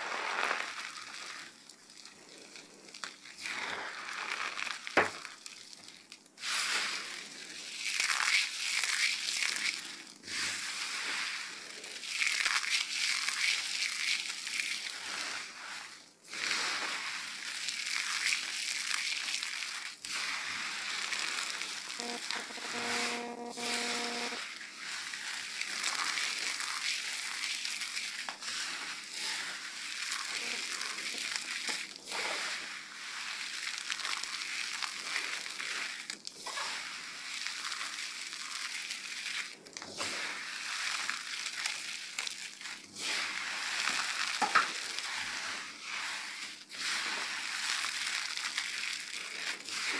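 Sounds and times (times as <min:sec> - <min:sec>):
hands crunching dry soap pieces: 0:00.1 - 0:15.4, 0:16.3 - 0:22.0, 0:24.8 - 0:32.2, 0:37.4 - 0:49.9.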